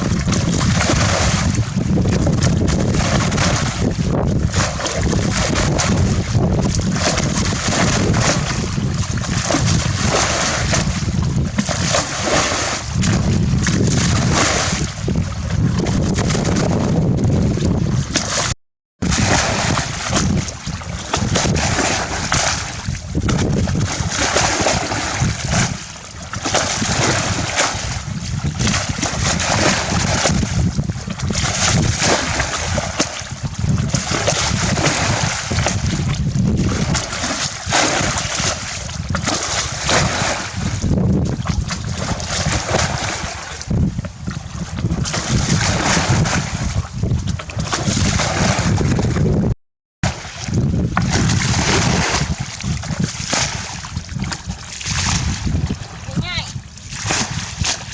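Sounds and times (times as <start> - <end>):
water splashing and churning: 0.0 - 57.9.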